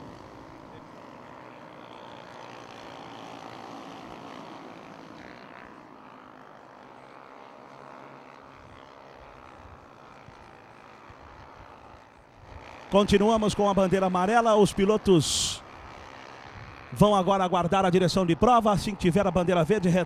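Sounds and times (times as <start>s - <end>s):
faint motorcycle engines droning: 0.0s - 20.0s.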